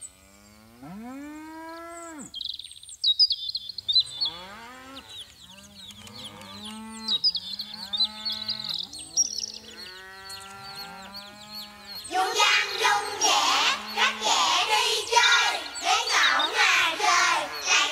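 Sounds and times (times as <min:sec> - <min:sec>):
voices imitating cattle mooing: 0:00.0 - 0:02.4, 0:03.8 - 0:17.9
high bird-like chirps and whistles: 0:02.3 - 0:04.4, 0:05.0 - 0:17.9.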